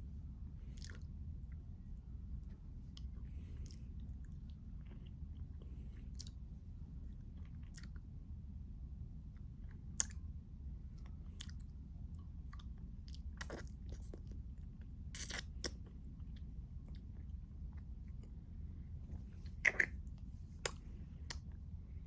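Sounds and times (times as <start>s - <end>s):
chewing crunchy ice cream bar: 0.6s - 1.7s, 2.3s - 8.2s, 9.3s - 10.3s, 10.9s - 18.4s, 19.0s - 21.7s.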